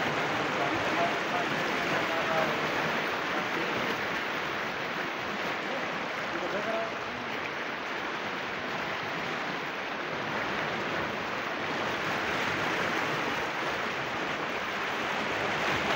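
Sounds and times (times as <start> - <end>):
floodwater rushing and churning: 0.0 - 15.9.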